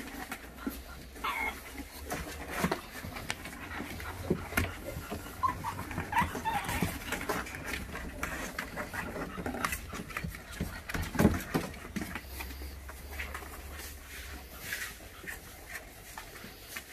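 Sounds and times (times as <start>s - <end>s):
puppy claws scratching cardboard: 0.0s - 16.9s.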